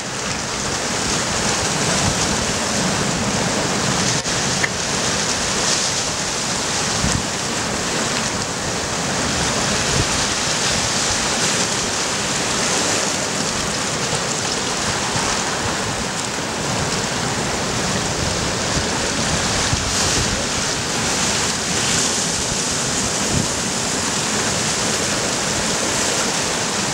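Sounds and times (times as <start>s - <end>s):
waves breaking on rocks: 0.0s - 26.9s
wind buffeting microphone: 0.2s - 26.9s.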